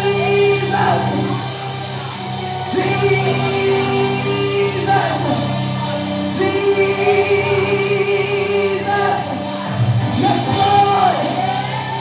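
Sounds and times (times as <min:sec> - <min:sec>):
band holding sustained chords: 0:00.0 - 0:12.0
person singing: 0:00.0 - 0:12.0.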